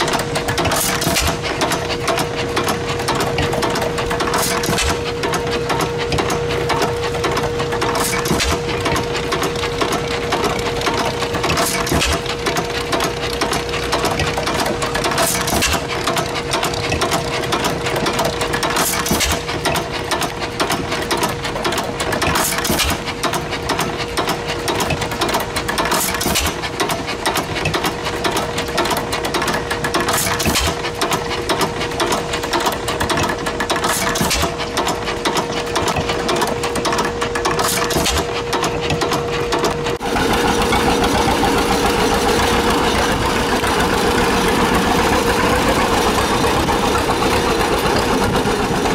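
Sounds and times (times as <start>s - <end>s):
old gas engines clattering: 0.0s - 48.9s.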